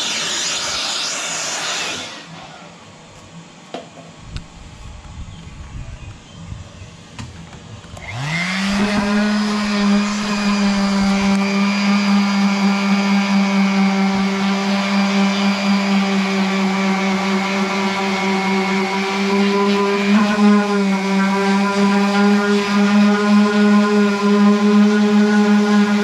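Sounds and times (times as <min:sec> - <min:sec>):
electric motor whining hum: 0:00.0 - 0:26.0.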